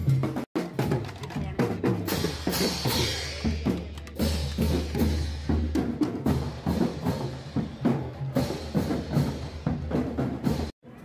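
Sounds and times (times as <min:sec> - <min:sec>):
marching drumline playing: 0:00.0 - 0:10.7.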